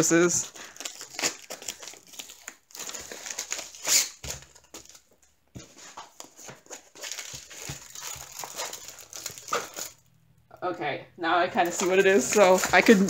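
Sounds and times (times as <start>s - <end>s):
plastic wrapping crinkling: 0.0s - 5.3s, 6.1s - 10.2s, 11.6s - 13.0s.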